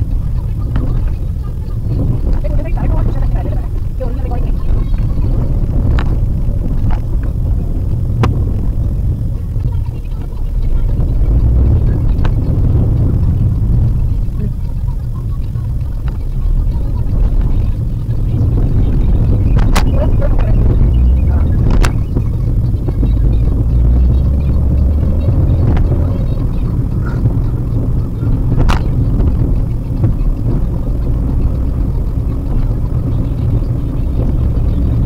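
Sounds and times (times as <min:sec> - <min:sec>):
car cabin road rumble: 0:00.0 - 0:35.0.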